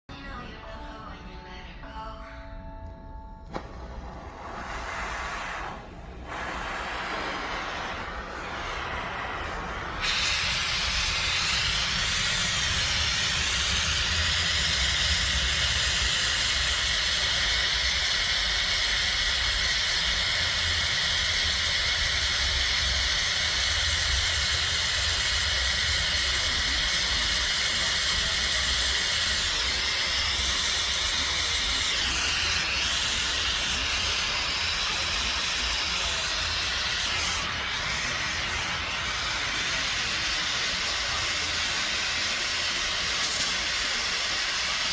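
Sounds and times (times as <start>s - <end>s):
steady low hum: 3.1s - 44.0s
torch flame hissing: 3.5s - 44.9s.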